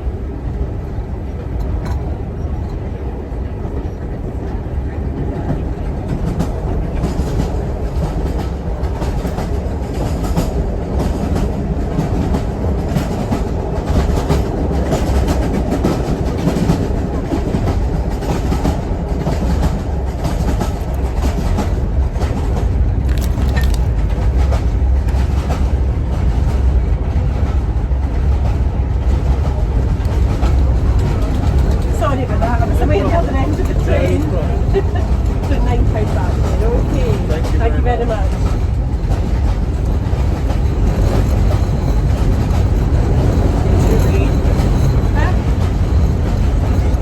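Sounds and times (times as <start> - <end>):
steam train rumbling: 0.0 - 47.0
wheels clattering on rails: 3.6 - 47.0.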